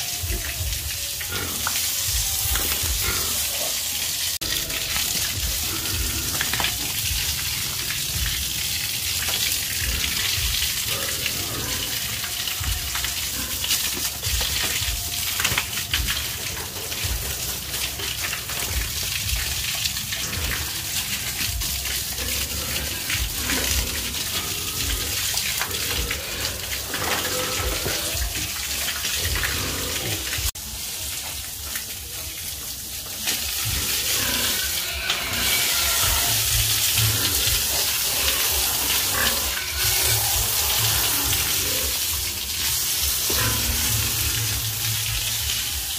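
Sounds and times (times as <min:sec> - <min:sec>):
water spray hissing and splashing: 0:00.0 - 0:45.9.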